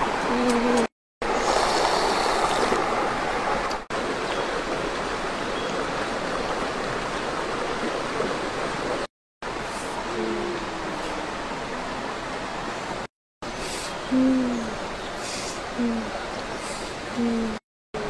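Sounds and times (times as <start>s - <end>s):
forest stream flowing over rocks: 0.0s - 17.2s.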